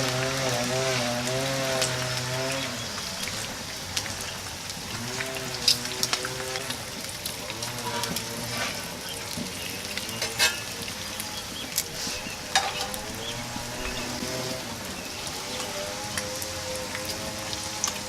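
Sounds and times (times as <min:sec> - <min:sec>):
food sizzling on griddle: 0:00.0 - 0:18.0.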